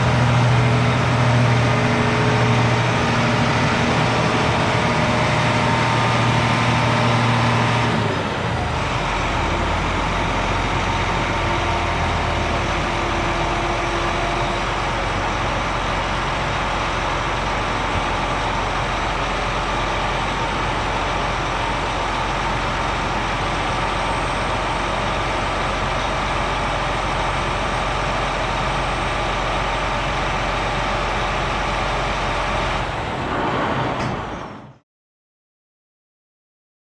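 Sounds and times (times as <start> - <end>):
heavy vehicle engine running: 0.0 - 34.8.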